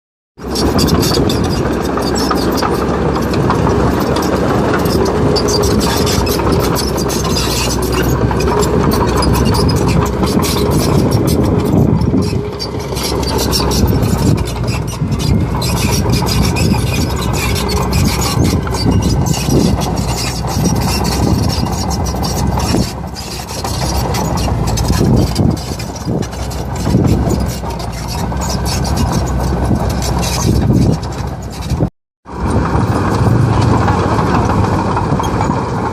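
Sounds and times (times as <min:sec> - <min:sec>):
excavator engine running: 0:00.4 - 0:35.9.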